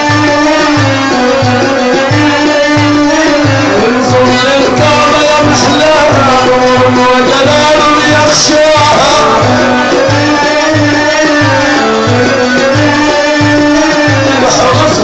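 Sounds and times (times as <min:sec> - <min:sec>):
middle eastern band music: 0:00.0 - 0:15.0
low drum beat: 0:00.2 - 0:15.0.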